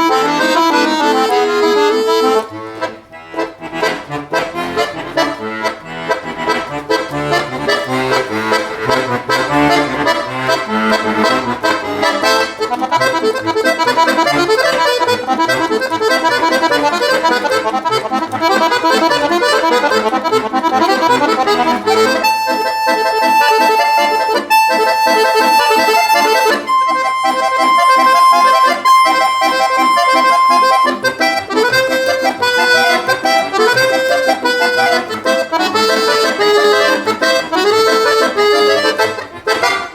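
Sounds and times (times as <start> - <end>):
solo accordion folk song: 0.0 - 39.9.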